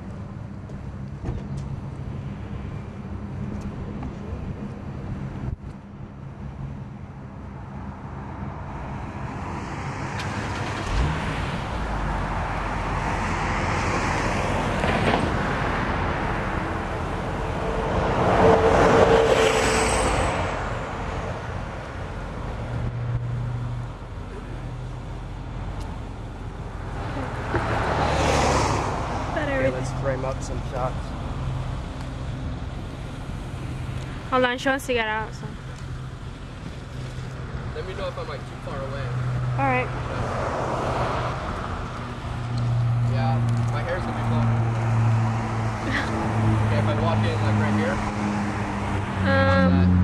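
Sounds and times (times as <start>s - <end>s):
cars passing by: 0.0s - 50.0s.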